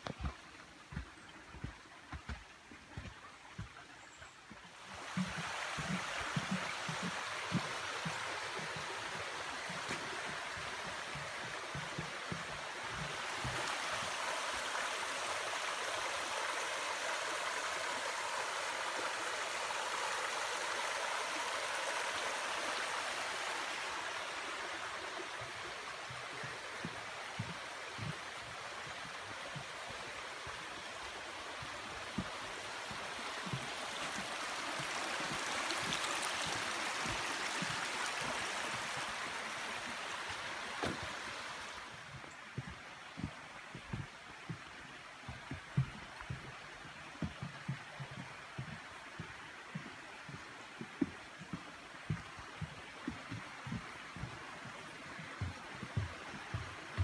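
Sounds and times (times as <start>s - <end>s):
creek running over rocks: 0.0s - 57.0s
footsteps on trail and boardwalk: 0.0s - 57.0s.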